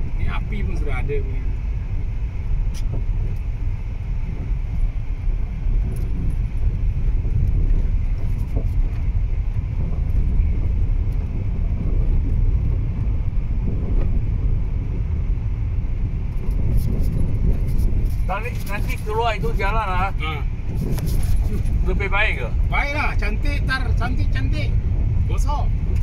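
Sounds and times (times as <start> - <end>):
car tyres rumbling on dirt road: 0.0 - 26.0.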